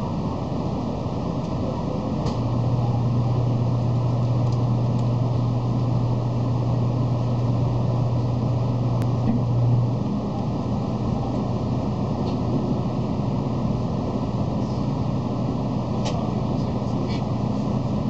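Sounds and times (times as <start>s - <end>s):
train cabin hum: 0.0s - 18.0s.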